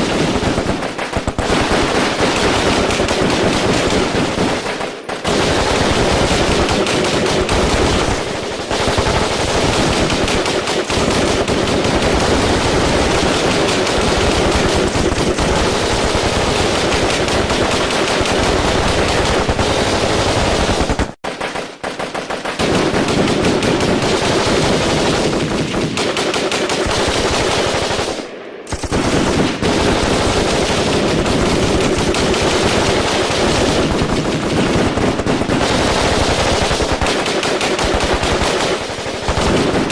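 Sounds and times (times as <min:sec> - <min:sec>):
automatic gunfire: 0:00.0 - 0:39.9.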